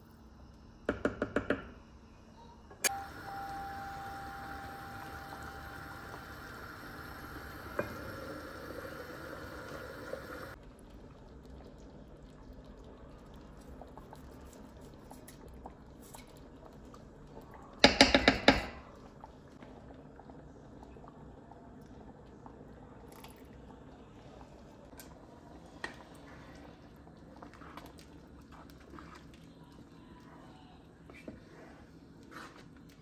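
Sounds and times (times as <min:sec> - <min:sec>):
soup simmering: 0:02.9 - 0:33.0.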